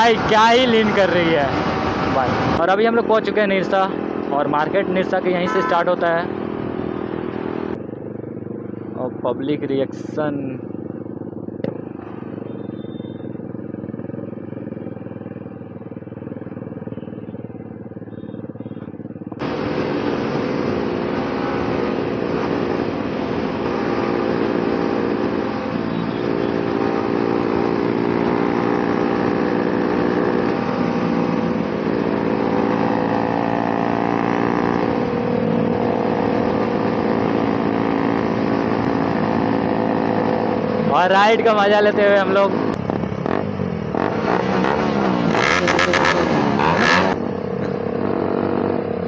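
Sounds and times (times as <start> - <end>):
motorcycles running: 0.0 - 49.0.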